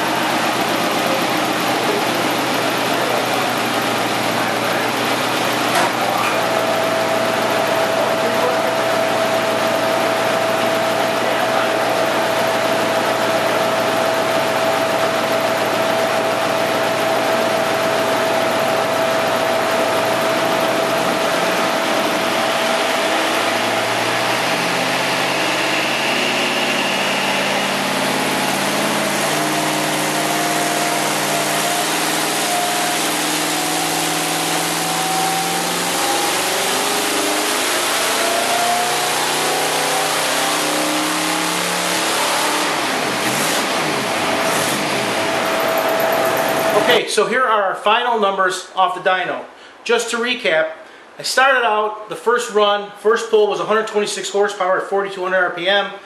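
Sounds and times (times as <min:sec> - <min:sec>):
car engine running: 0:00.0 - 0:47.1
high whine: 0:00.0 - 0:47.3.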